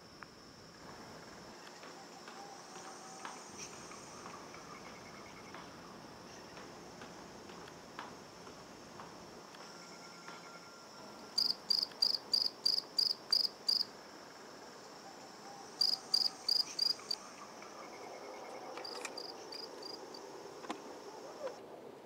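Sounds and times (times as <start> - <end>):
cricket chirping: 0.0 - 21.6.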